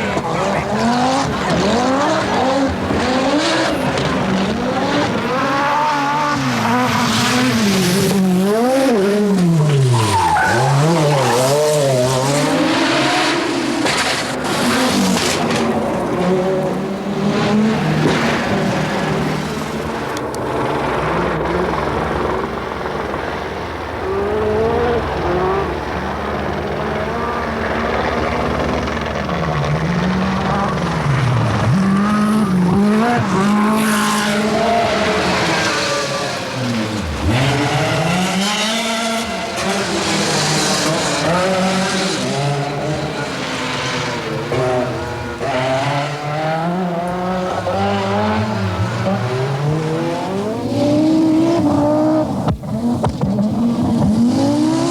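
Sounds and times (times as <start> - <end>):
rally car engines revving hard: 0.0 - 54.9.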